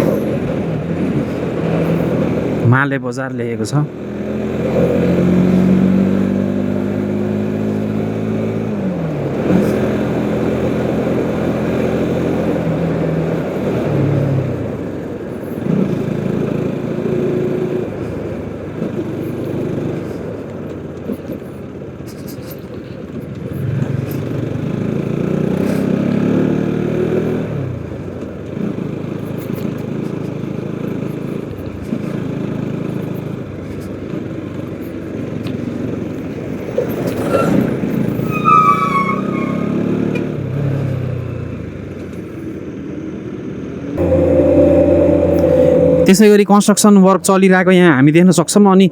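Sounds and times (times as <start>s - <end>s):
wind and road noise: 0.0s - 44.0s.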